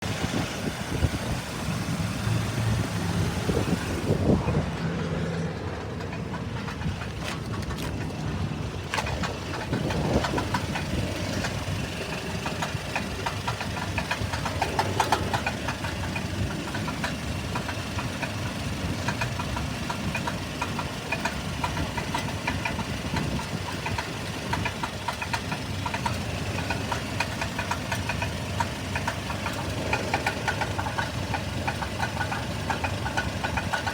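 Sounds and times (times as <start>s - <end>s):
engine with rapid knocking rattle: 0.0s - 33.9s.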